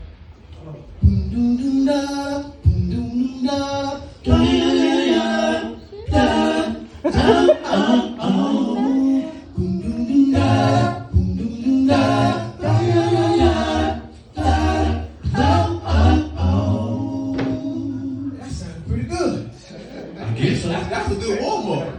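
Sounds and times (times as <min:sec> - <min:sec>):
voices singing a cappella harmony: 0:00.9 - 0:18.9.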